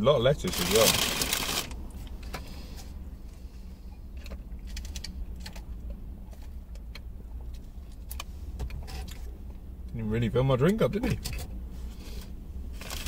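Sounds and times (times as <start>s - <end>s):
low rumble inside a car: 0.0s - 13.0s.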